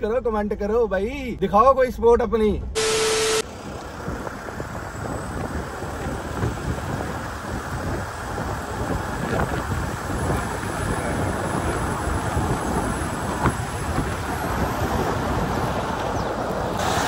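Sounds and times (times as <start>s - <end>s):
vehicle rumble and wind noise: 0.0s - 17.0s.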